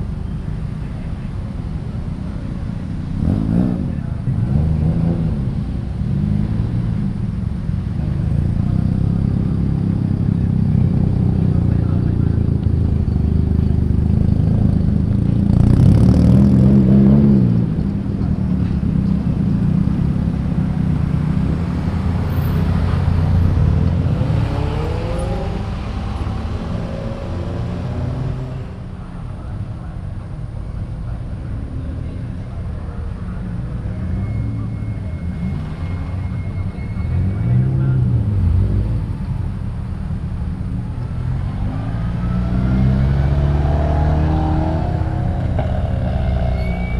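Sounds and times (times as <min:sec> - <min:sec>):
car engines revving past: 0:00.0 - 0:46.9.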